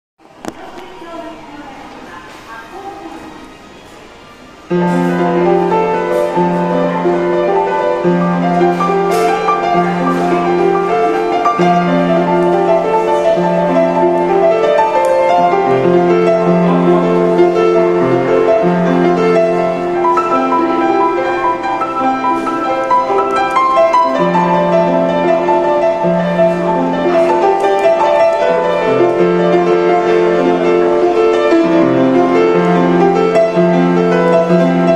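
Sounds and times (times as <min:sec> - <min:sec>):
upright piano playing: 0:04.5 - 0:34.9.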